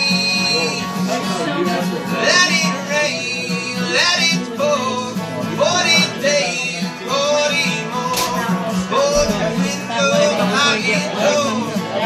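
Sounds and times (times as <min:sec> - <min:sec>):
acoustic guitar strumming: 0:00.0 - 0:12.0
man singing: 0:00.0 - 0:12.0.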